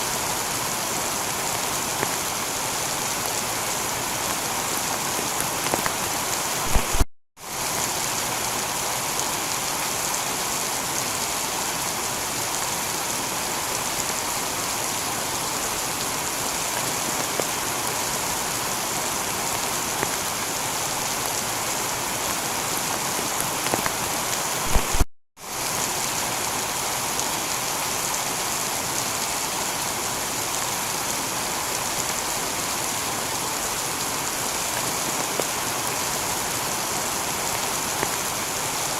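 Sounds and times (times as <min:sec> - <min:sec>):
heavy rain on a tiled roof: 0:00.0 - 0:38.9.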